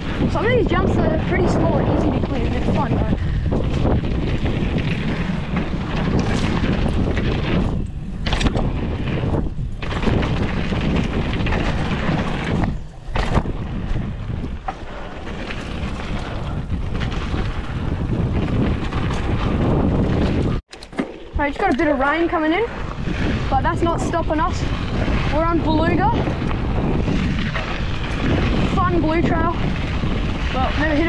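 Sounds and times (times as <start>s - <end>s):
bike tyres rolling on dirt trail: 0.0s - 31.0s
wind over microphone: 0.0s - 31.0s.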